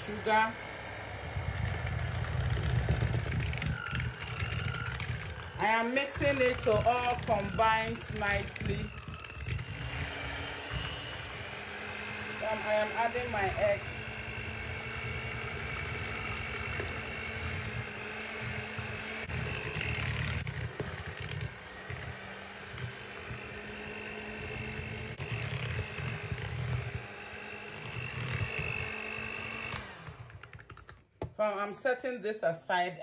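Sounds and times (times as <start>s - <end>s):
electric hand mixer whining: 0.0s - 30.9s.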